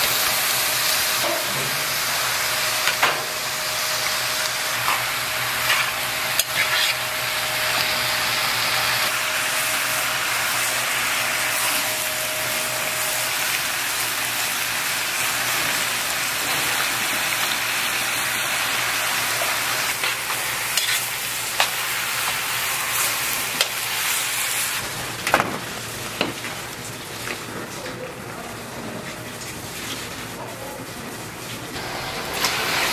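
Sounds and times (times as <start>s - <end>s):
vegetables sizzling in pan: 0.0s - 27.5s, 31.3s - 32.9s.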